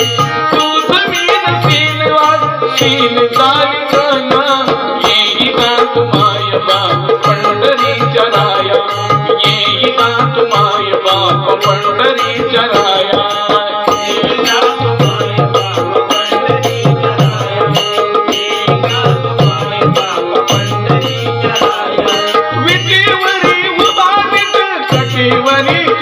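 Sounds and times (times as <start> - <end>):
hand drums beating: 0.0 - 26.0.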